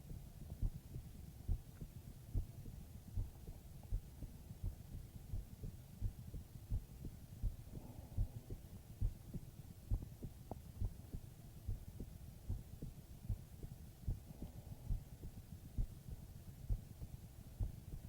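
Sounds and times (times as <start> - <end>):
muffled heartbeat thumps: 0.0 - 18.0.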